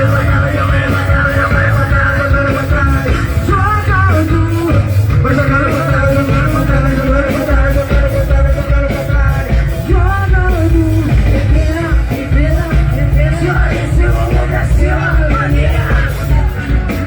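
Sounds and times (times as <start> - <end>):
heavy bass beat: 0.0 - 17.0
live band playing dance music: 0.0 - 17.0
person singing or shouting: 0.0 - 17.0.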